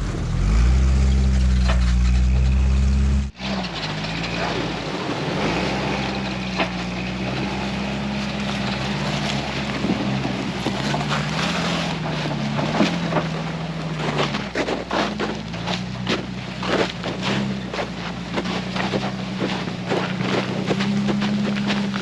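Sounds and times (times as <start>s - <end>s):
vehicle engine running: 0.0s - 22.0s
knocks and clatter: 0.8s - 22.0s.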